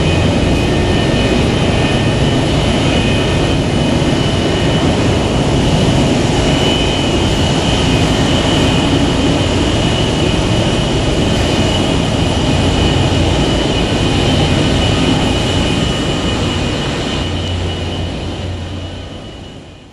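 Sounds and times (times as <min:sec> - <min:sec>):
jet engines rumbling and whining: 0:00.0 - 0:19.9.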